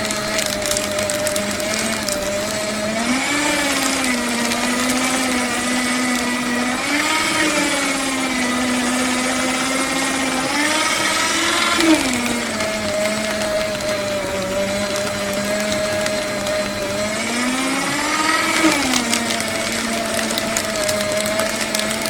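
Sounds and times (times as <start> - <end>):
paper shredder motor humming: 0.0 - 22.0.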